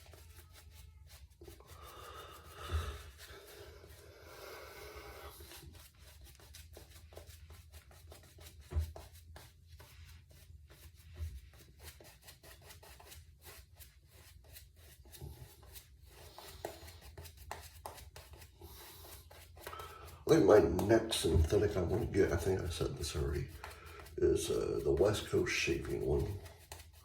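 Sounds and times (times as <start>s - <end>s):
shaving brush lathering soap: 0.0s - 27.0s.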